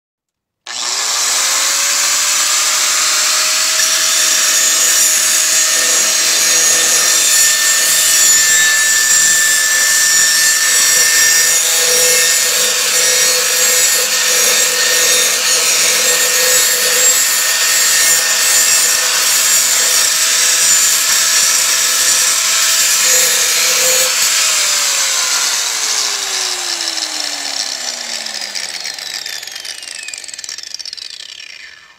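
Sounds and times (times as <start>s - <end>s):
angle grinder whining: 0.7s - 31.9s.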